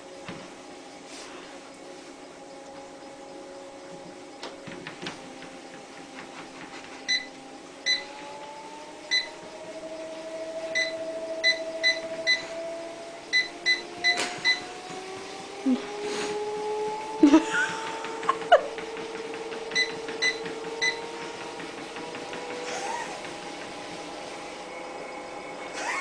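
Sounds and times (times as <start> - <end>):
motor humming: 1.6 - 26.0.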